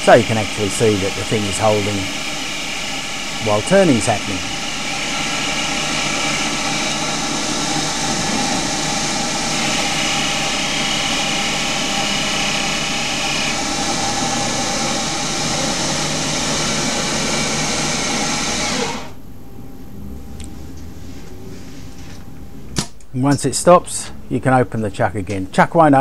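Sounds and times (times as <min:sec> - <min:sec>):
high cutting tone: 0:00.0 - 0:21.1
lathe running: 0:00.0 - 0:22.6.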